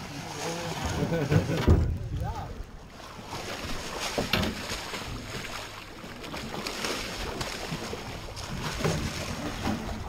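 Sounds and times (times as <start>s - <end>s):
water splashing and churning: 0.0s - 10.0s.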